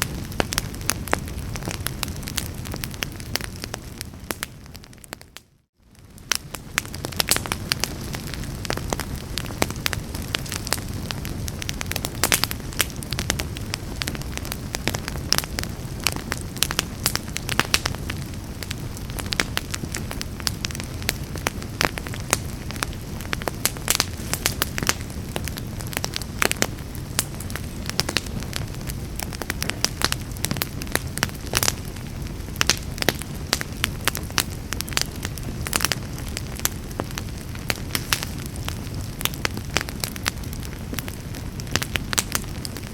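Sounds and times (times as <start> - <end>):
fire crackling and popping: 0.0 - 42.9
low rumble of flames: 0.0 - 42.9.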